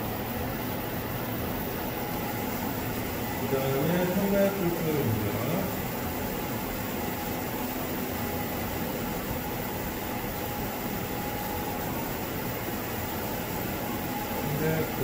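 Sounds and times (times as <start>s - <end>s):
cooling fans hiss and hum: 0.0s - 15.0s
faint steady tones: 0.0s - 15.0s.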